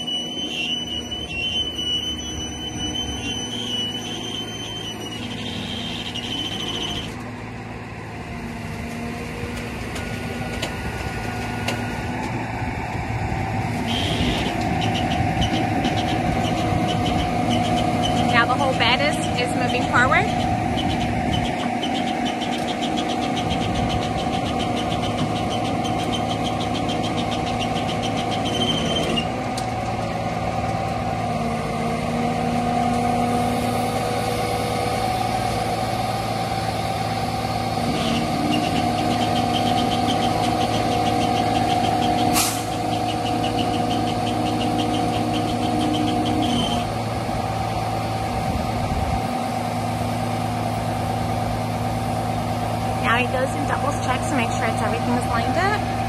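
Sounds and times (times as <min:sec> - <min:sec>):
truck engine running under load: 0:00.0 - 0:56.0
winch whine: 0:00.0 - 0:56.0.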